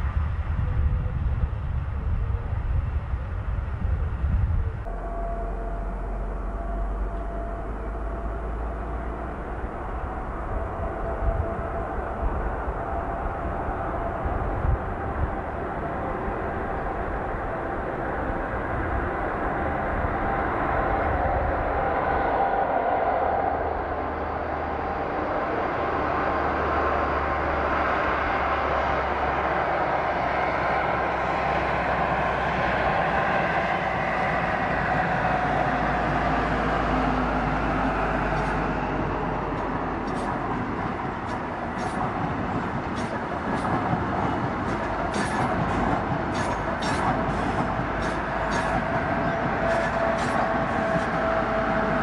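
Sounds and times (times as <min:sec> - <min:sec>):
diesel train drone: 0:00.0 - 0:52.0.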